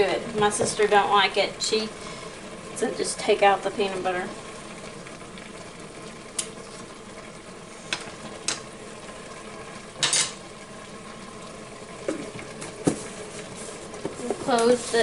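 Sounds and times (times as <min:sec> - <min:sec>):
stir-fry sizzling in a pan: 0:00.0 - 0:15.0.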